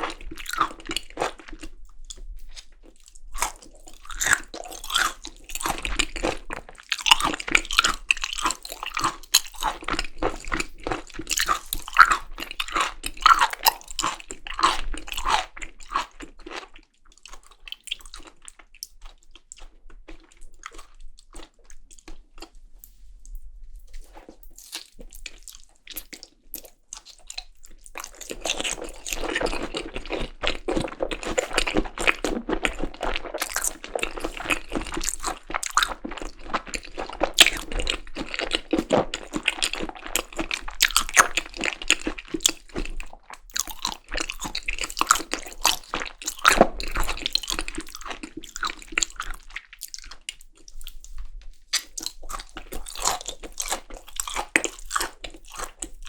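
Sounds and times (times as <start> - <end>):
close chewing with wet smacks: 0.0 - 56.0.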